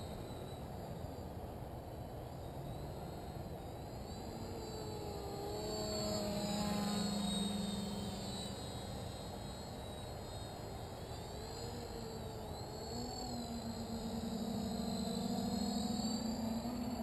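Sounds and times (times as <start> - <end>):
quadcopter propeller hum: 2.9 - 17.0.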